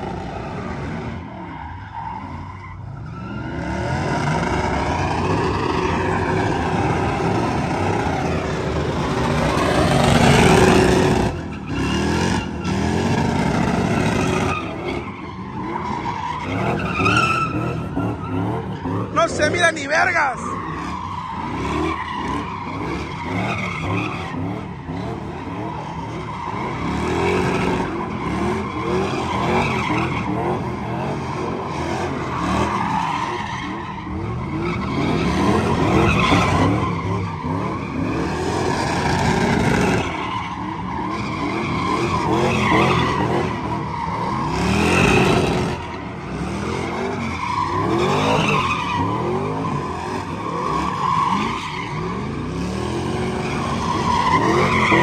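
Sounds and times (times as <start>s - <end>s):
engines revving: 0.0s - 55.0s
tyres squealing on asphalt: 0.0s - 55.0s.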